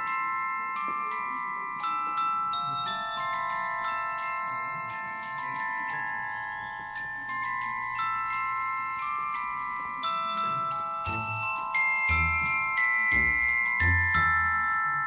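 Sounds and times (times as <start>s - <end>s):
bell-like mallet melody: 0.0s - 15.0s.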